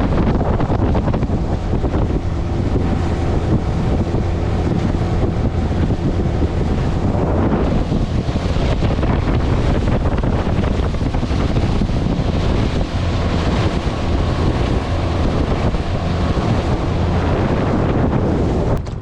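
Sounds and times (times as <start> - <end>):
outboard motor drone: 0.0 - 19.0
wind noise on microphone: 0.0 - 19.0.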